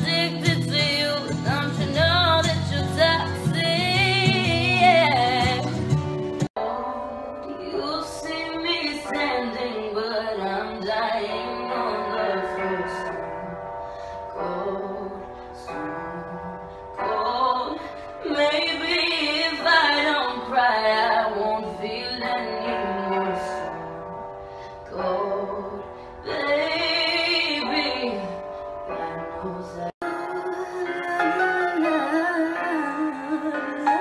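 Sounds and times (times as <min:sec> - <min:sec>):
woman singing: 0:00.0 - 0:06.0, 0:06.6 - 0:34.0
instrumental backing track: 0:00.0 - 0:34.0.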